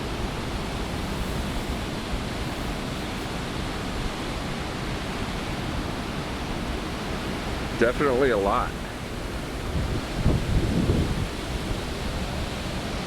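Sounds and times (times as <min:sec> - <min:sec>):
storm surf breaking: 0:00.0 - 0:12.9.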